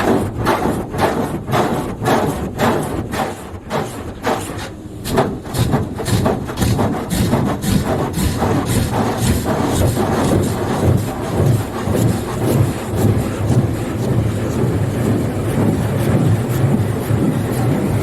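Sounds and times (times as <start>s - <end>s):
car wash water beating on car: 0.0s - 18.0s.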